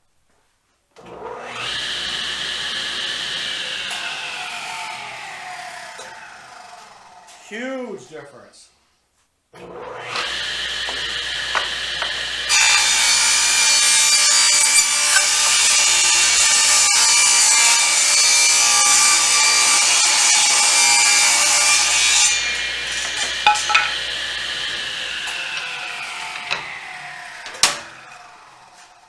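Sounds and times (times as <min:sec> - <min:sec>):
table saw cutting board: 0:01.0 - 0:07.4, 0:09.6 - 0:29.0.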